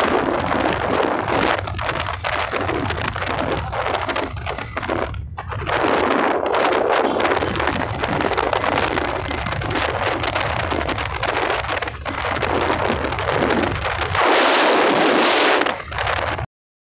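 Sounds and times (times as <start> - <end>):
scooter low rumble: 0.0 - 16.5
wind buffeting microphone: 0.0 - 16.5.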